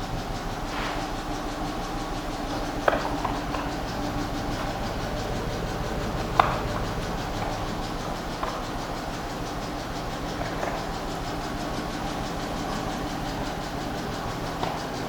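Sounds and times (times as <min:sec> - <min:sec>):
car engine droning: 0:00.0 - 0:15.0
sharp engine knocks: 0:00.0 - 0:15.0.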